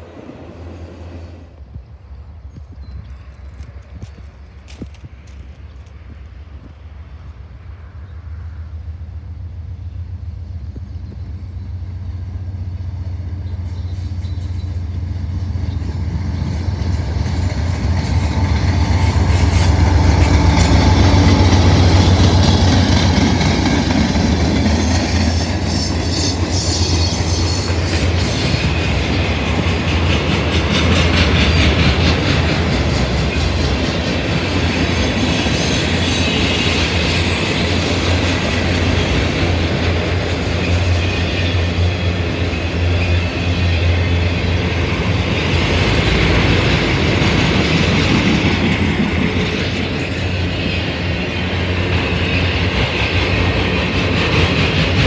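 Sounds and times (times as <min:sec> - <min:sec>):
diesel locomotive engine drone: 0:00.0 - 0:55.0
train wheels clattering on rails: 0:01.7 - 0:06.8, 0:13.2 - 0:55.0.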